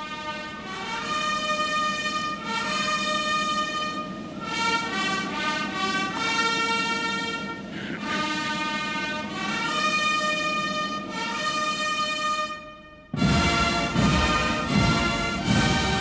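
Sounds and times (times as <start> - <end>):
military brass fanfare: 0.0 - 16.0
sustained trumpet chords: 0.0 - 16.0.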